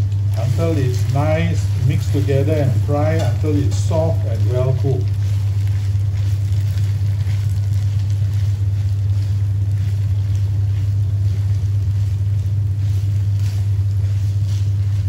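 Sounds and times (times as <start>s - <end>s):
food sizzling: 0.0s - 15.0s
loud low hum: 0.0s - 15.0s
spatula scraping a wok: 0.4s - 15.0s.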